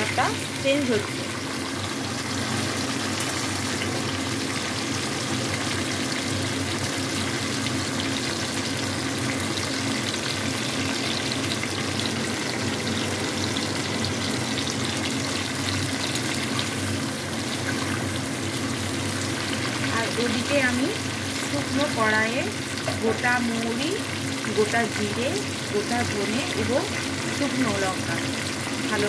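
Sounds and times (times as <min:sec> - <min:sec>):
mango pieces sizzling in oil: 0:00.0 - 0:29.0.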